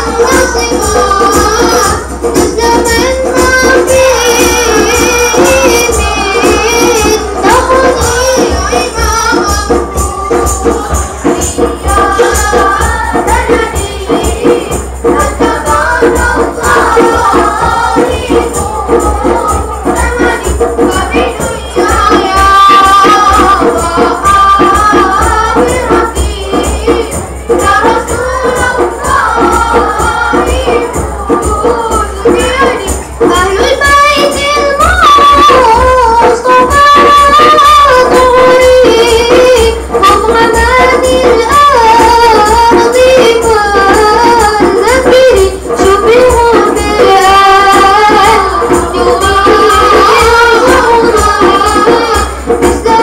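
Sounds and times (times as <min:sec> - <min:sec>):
boys singing together: 0:00.0 - 0:53.0
hand percussion beat: 0:00.0 - 0:53.0
tambourine-like jingling: 0:00.0 - 0:53.0.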